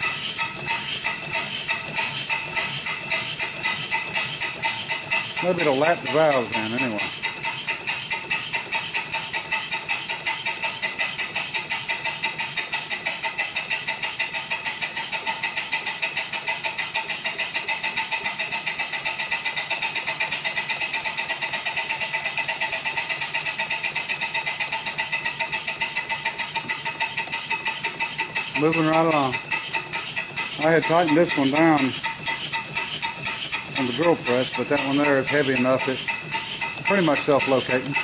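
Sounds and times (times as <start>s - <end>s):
steam engine linkage clattering: 0.0s - 38.0s.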